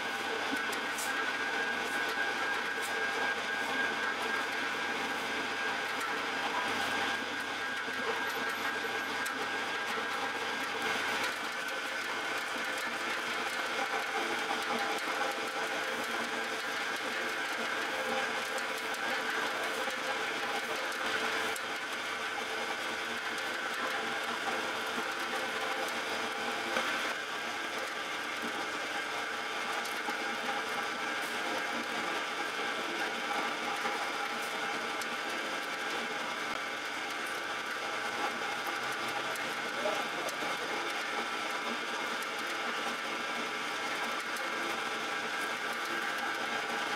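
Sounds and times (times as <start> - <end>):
dough mixer running: 0.0 - 46.9.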